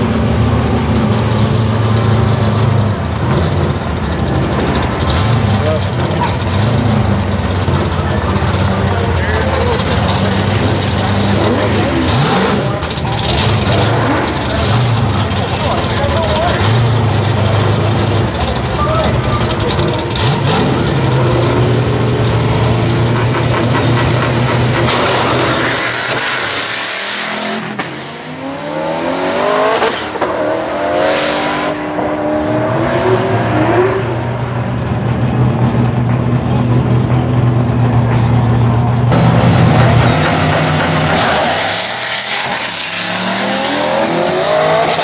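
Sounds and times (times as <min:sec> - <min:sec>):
race car engines revving: 0:00.0 - 0:45.0.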